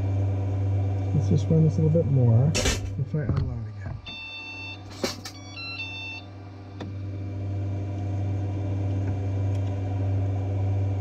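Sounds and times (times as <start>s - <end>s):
printer low hum: 0.0s - 11.0s.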